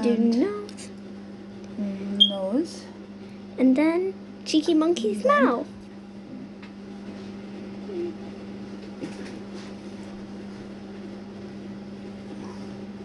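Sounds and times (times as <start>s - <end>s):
appliance humming: 0.0s - 13.0s.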